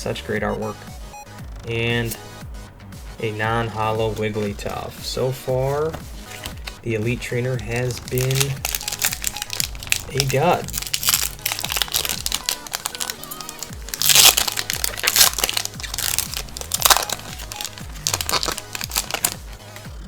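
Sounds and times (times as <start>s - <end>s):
electronic music: 0.0s - 20.0s
foil wrapper crinkling: 3.8s - 20.0s.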